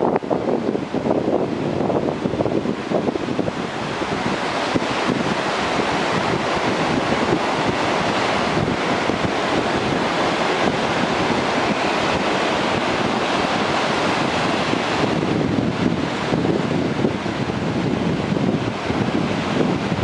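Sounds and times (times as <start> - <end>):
waves breaking: 0.0 - 20.0
wind buffeting microphone: 0.0 - 20.0.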